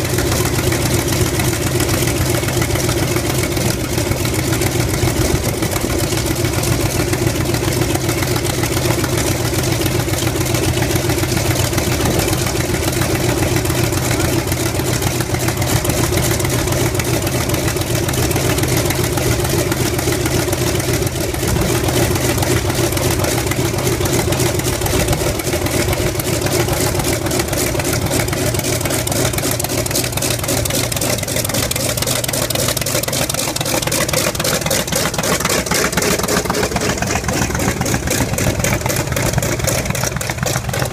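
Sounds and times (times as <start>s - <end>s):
radial aircraft engine idling: 0.0s - 40.9s.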